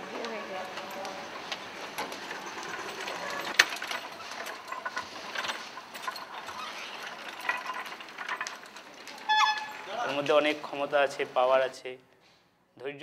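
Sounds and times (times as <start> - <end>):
mechanical clicking and rattling: 0.1 - 11.2.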